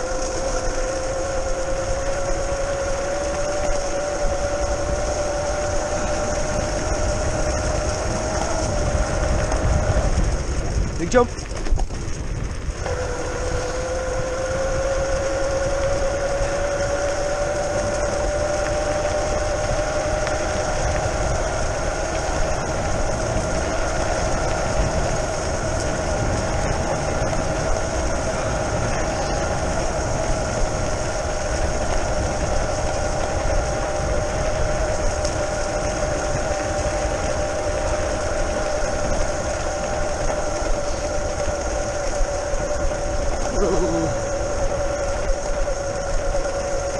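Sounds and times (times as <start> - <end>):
electric scooter motor whine: 0.0 - 46.9
tyres rumbling on rough track: 0.0 - 46.9
wind: 0.0 - 46.9.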